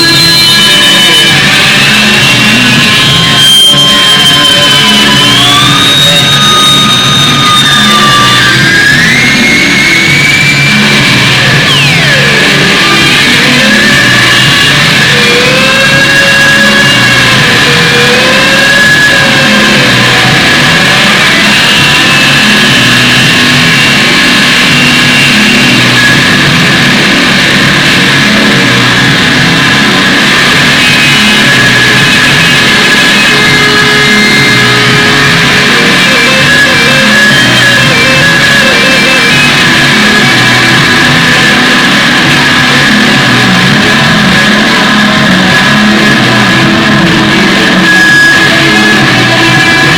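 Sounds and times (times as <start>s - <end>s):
rock music with distorted guitar: 0.0s - 49.9s.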